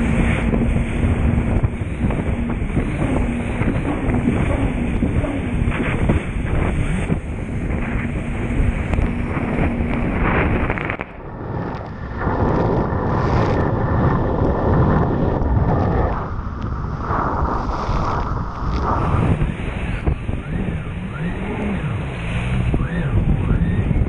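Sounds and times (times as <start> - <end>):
jet ski engine hum: 0.0 - 24.0
wind buffeting microphone: 0.0 - 24.0.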